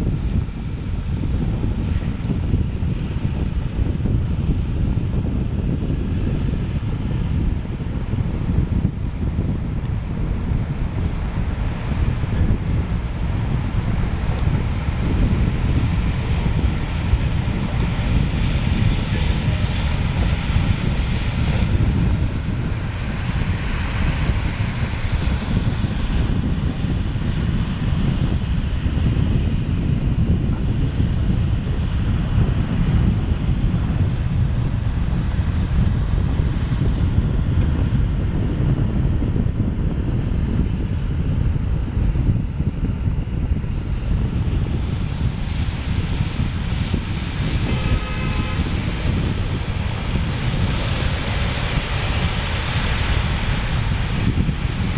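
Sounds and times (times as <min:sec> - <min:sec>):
storm wind buffeting microphone: 0:00.0 - 0:54.9.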